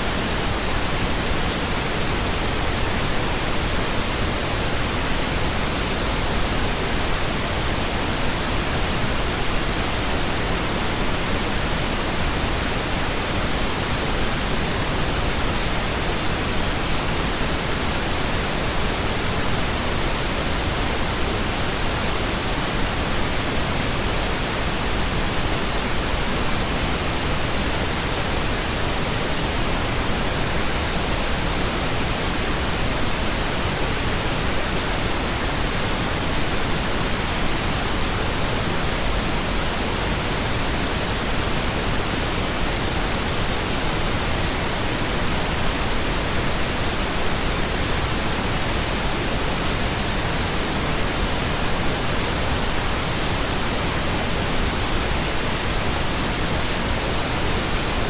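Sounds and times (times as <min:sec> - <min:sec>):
pink noise hiss: 0:00.0 - 0:58.0.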